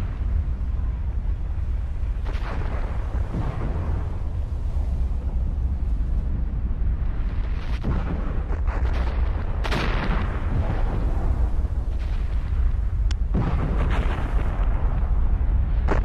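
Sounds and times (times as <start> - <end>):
deep volcanic rumble: 0.0 - 16.0
explosive blasts: 0.0 - 16.0.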